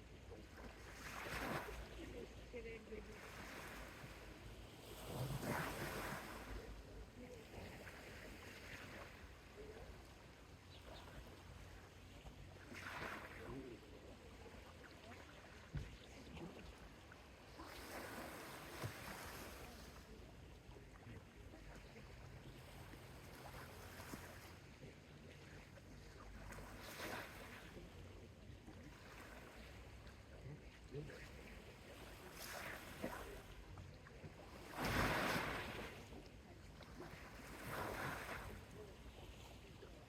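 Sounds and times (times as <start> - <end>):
low rumble of surf: 0.0 - 40.0
small waves washing onto beach: 0.0 - 40.0.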